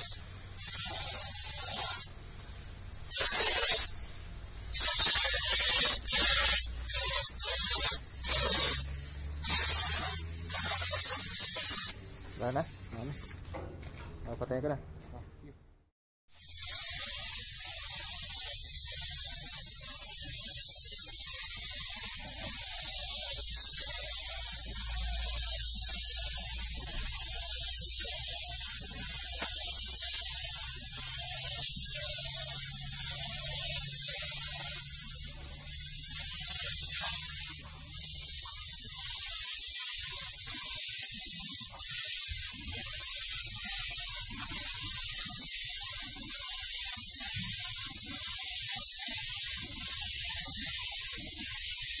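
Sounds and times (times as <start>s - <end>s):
spray painting hiss: 0.0s - 13.6s, 16.3s - 52.0s.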